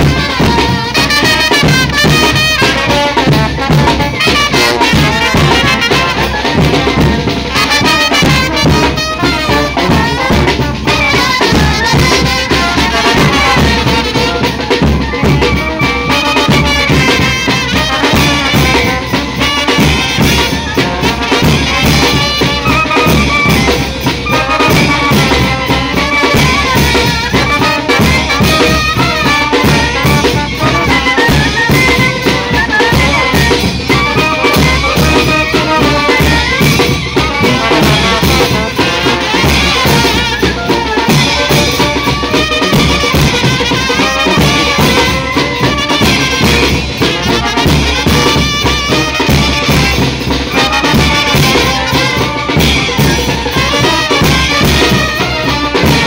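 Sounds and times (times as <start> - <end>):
brass band playing: 0.0 - 56.0
drums and hand cymbals: 0.0 - 56.0.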